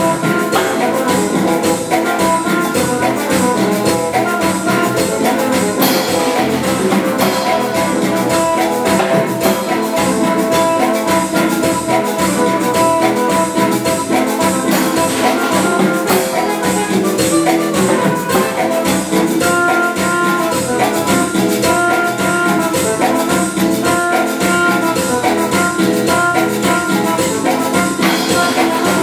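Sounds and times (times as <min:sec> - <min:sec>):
electric bass: 0:00.0 - 0:29.0
keyboard melody: 0:00.0 - 0:29.0
percussion beat: 0:00.0 - 0:29.0.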